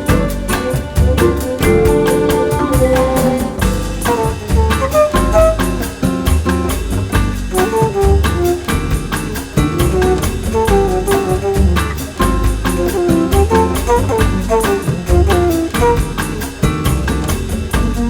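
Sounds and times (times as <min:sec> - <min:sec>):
upbeat jazz music: 0:00.0 - 0:18.0.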